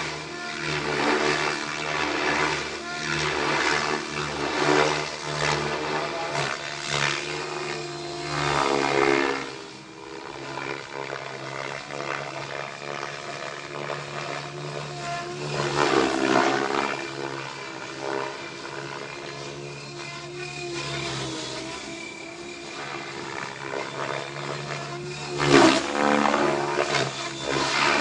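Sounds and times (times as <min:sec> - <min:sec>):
model aircraft motor whining: 0:00.0 - 0:28.0.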